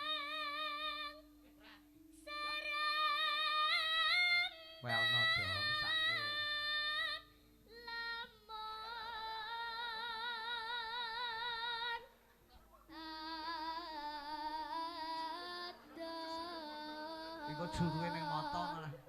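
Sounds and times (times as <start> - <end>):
girl singing with vibrato: 0.0 - 1.4, 2.1 - 12.1, 12.9 - 19.0.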